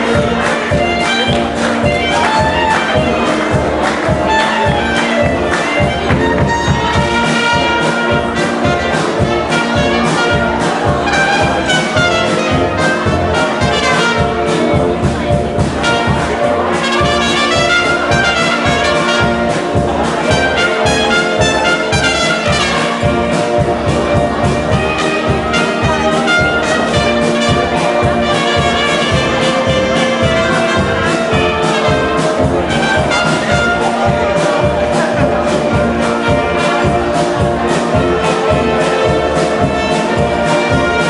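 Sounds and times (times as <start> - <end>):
big band playing jazz: 0.0 - 41.0
drum kit beat: 0.0 - 41.0.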